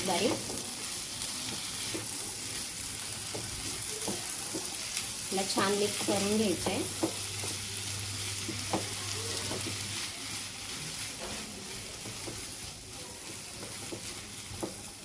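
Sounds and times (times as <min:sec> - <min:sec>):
vegetables sizzling in a pan: 0:00.0 - 0:15.0
spatula stirring and scraping: 0:00.1 - 0:15.0.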